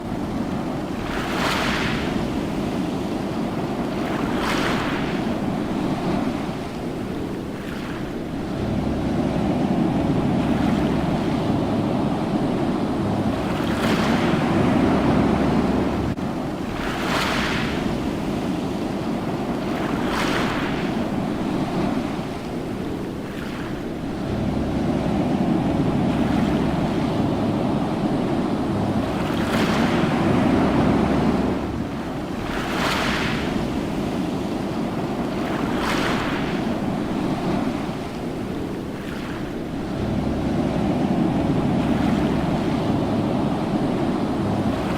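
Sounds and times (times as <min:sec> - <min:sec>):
ocean waves washing: 0:00.0 - 0:44.9.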